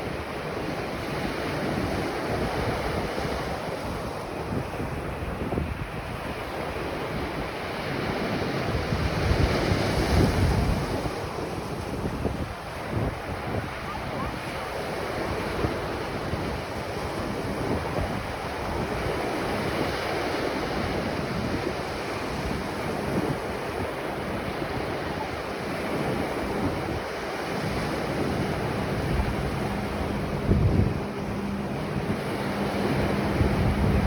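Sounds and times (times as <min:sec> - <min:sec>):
ocean surf washing onto beach: 0:00.0 - 0:34.0
wind buffeting microphone: 0:00.0 - 0:34.0.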